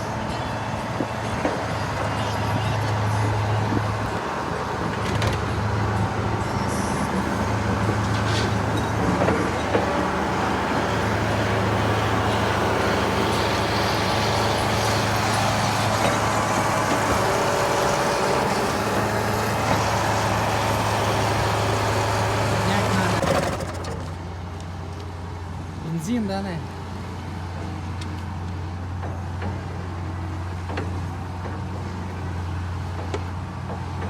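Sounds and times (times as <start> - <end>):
excavator diesel engine: 0.0 - 34.0.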